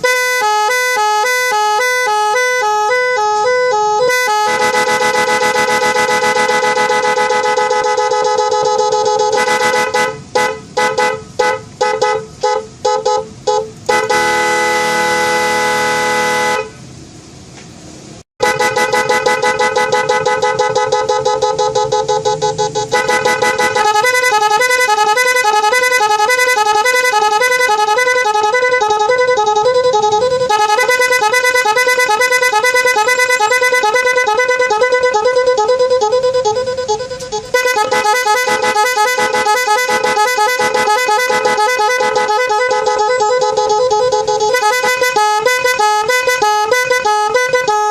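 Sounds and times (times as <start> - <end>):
warbling horn tone: 0.0 - 16.8, 18.4 - 47.9
electric vehicle horn honking: 0.0 - 16.9, 18.4 - 47.9.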